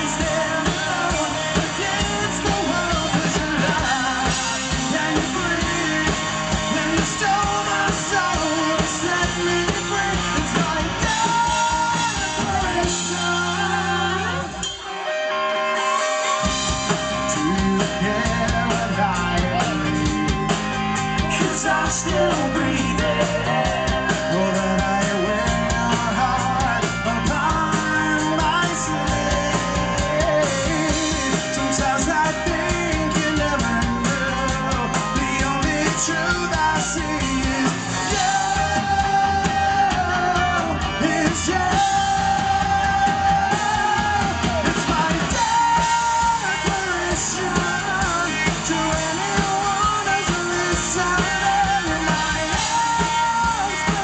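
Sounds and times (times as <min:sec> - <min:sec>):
man singing: 0:00.0 - 0:15.1, 0:15.8 - 0:54.0
live rock band: 0:00.0 - 0:54.0.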